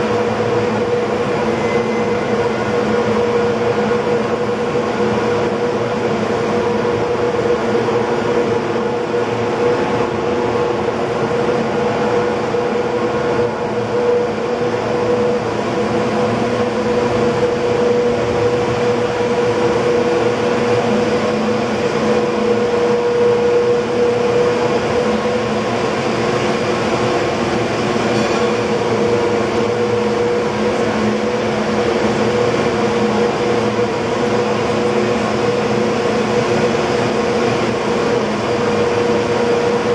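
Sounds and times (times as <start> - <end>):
winding machinery drone: 0.0 - 39.9.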